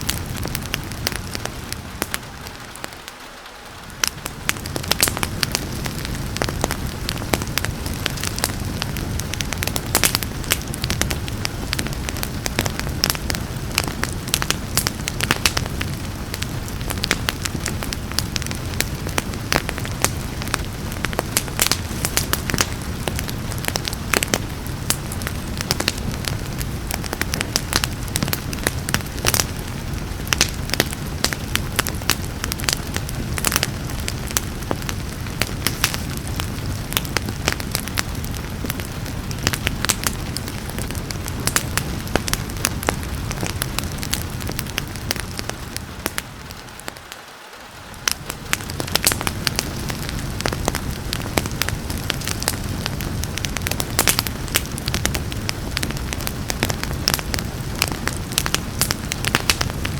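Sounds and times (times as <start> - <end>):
soft hiss of rain: 0.0 - 59.9
wood fire crackling and popping: 0.0 - 59.9.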